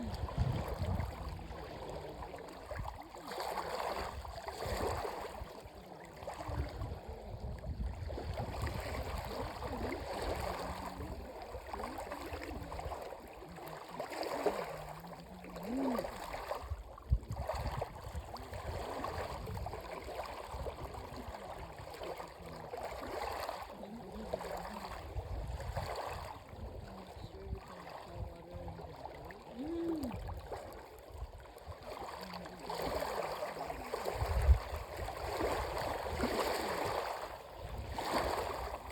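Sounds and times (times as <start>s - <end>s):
water lapping and sloshing: 0.0s - 38.9s
water splashes: 0.0s - 38.9s.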